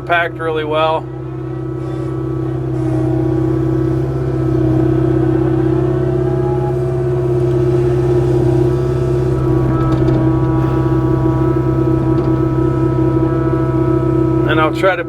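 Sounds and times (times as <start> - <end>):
excavator diesel engine digging: 0.0 - 15.0.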